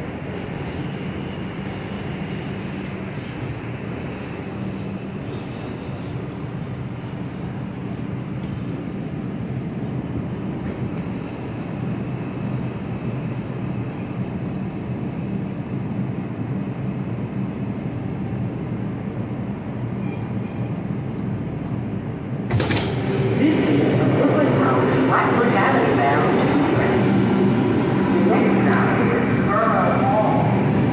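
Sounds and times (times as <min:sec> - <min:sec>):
subway wheels rumbling on rail: 0:00.0 - 0:30.9.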